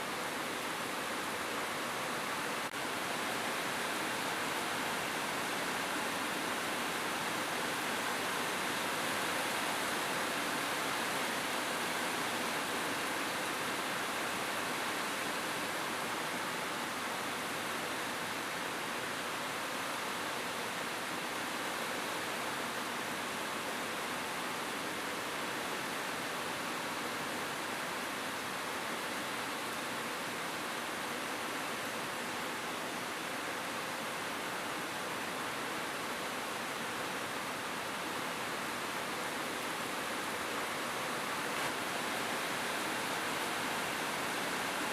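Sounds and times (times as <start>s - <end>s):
rain on a rooftop: 0.0s - 44.9s.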